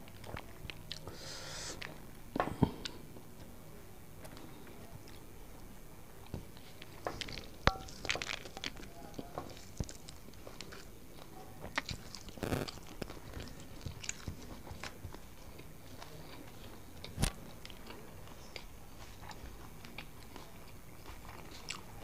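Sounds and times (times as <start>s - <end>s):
chewing: 0.0s - 3.5s, 4.2s - 22.0s.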